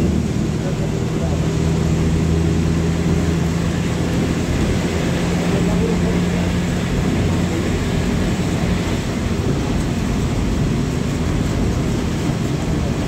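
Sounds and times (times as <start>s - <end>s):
rain: 0.0s - 13.0s
vehicle interior road rumble: 0.0s - 13.0s.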